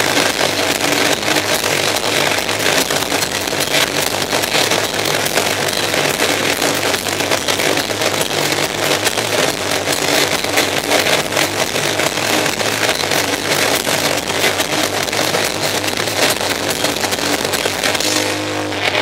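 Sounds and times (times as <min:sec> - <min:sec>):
distorted electric guitar: 0:00.0 - 0:19.0
fast drumming: 0:00.0 - 0:19.0.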